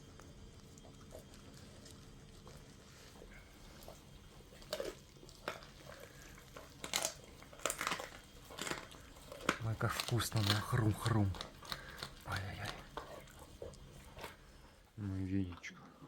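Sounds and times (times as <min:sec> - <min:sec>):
animal chewing and crunching: 0:00.0 - 0:16.0.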